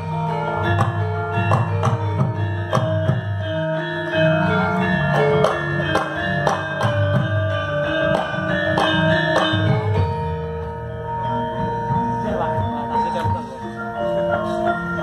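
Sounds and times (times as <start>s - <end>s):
metallophones and gongs struck: 0.0s - 15.0s.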